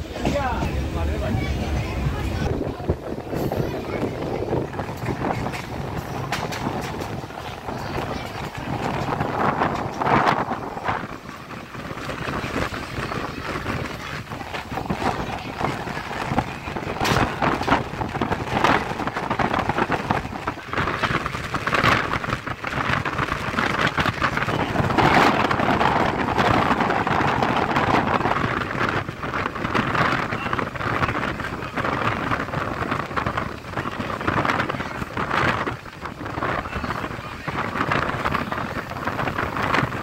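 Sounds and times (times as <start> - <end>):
wind rushing through car window: 0.0 - 40.0.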